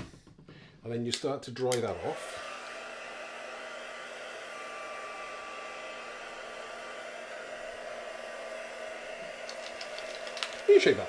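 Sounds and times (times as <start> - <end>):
heat tool blowing with whine: 1.8 - 11.0.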